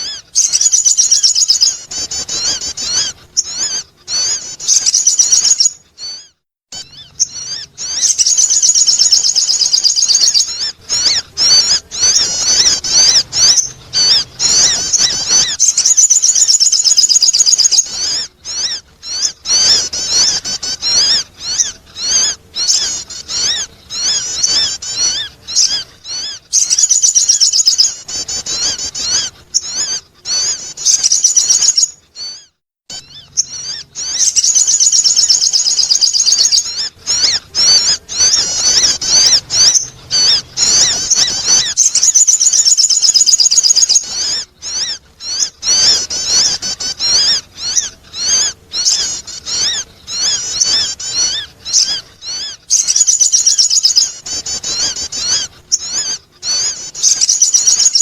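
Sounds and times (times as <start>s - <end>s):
bird chirping trills: 0.0s - 58.0s.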